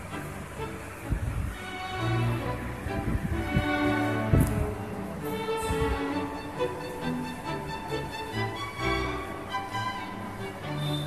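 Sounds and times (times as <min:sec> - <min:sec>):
bowed strings melody: 0:00.0 - 0:11.0.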